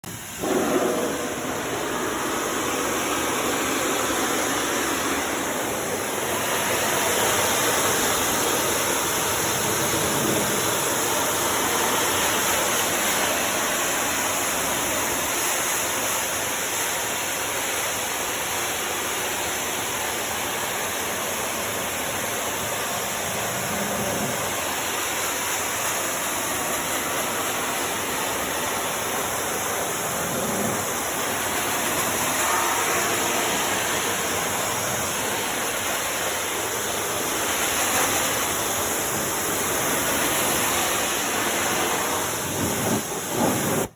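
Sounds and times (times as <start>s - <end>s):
pressure washer water spray hissing: 0.0s - 43.9s.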